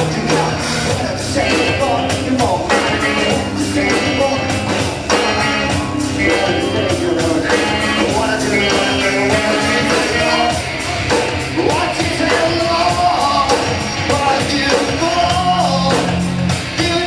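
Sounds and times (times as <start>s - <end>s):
drums beating: 0.0s - 17.0s
live rock band: 0.0s - 17.0s.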